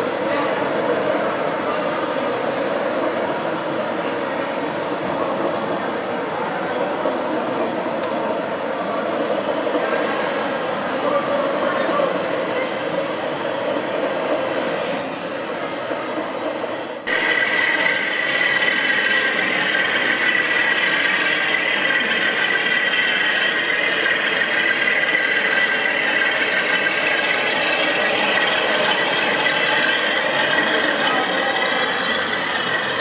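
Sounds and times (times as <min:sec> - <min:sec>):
model trains running and rattling: 0:00.0 - 0:33.0.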